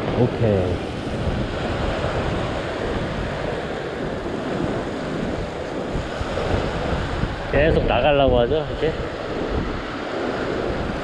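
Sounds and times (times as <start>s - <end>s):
surf washing over rocks: 0.0s - 11.0s
wind buffeting microphone: 0.0s - 11.0s.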